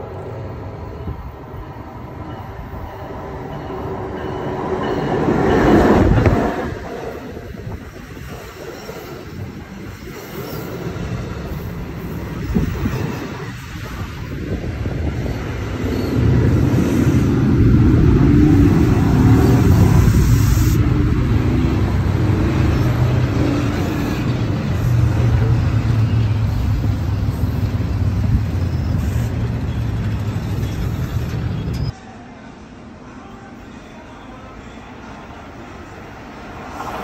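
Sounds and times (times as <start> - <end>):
train wheels rumbling on rail: 1.1 - 32.0.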